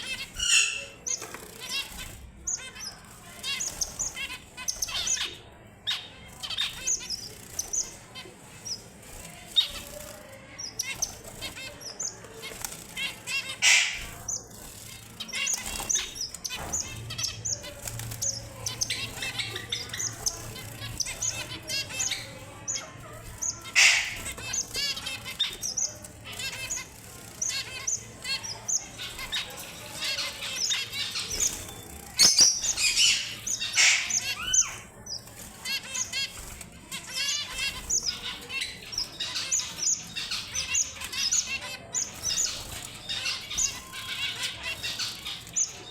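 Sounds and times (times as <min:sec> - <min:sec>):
finches chirping and twittering: 0:00.0 - 0:45.9
wings fluttering: 0:00.0 - 0:45.9.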